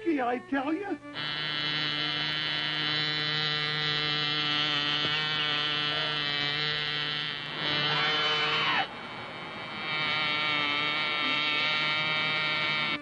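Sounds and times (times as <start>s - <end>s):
model aeroplane engine buzzing: 1.0s - 13.0s.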